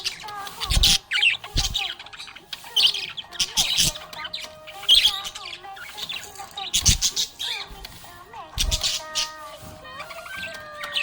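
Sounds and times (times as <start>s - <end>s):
budgerigars chirping and warbling: 0.0s - 11.0s.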